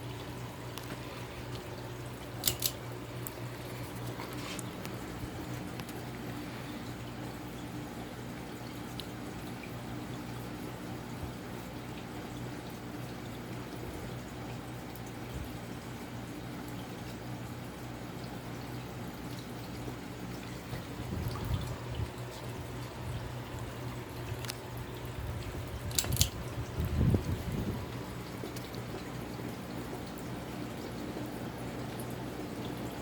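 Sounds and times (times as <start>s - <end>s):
ceiling fan motor hum: 0.0s - 33.0s.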